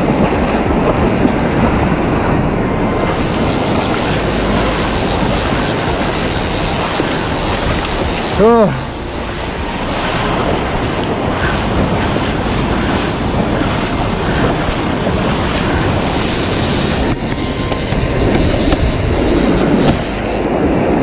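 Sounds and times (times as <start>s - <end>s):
surf breaking on reef: 0.0s - 21.0s
wind buffeting microphone: 0.0s - 21.0s.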